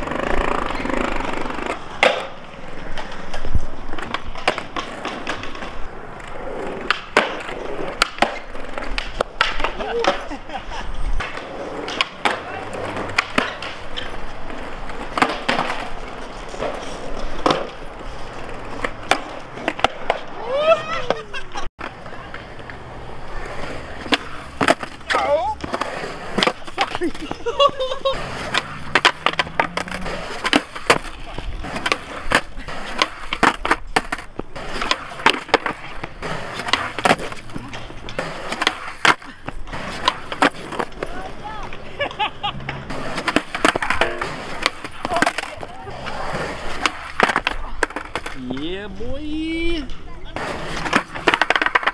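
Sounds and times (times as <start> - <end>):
skateboard deck clacking: 0.0 - 48.7, 49.7 - 51.9
skateboard rolling on concrete: 0.0 - 51.9.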